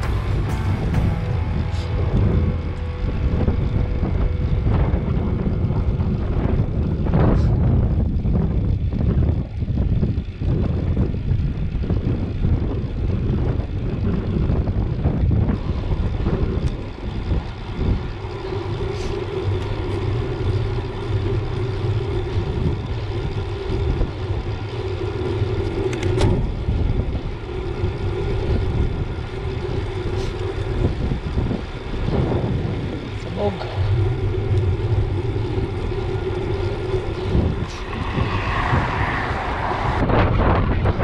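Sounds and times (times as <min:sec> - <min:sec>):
road traffic noise: 0:00.0 - 0:41.0
steady hum: 0:00.0 - 0:41.0
wind buffeting microphone: 0:00.0 - 0:41.0.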